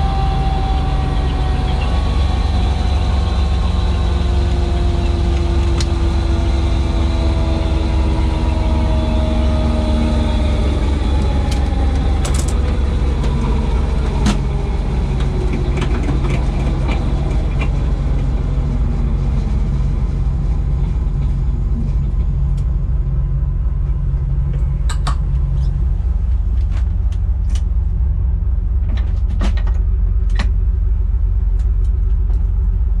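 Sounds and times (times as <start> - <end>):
helicopter engine and rotor drone: 0.0 - 33.0.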